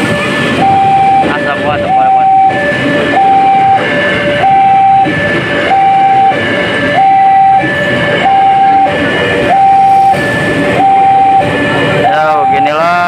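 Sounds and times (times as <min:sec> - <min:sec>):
electric train passing: 0:00.0 - 0:13.0
two-tone crossing alarm: 0:00.0 - 0:13.0.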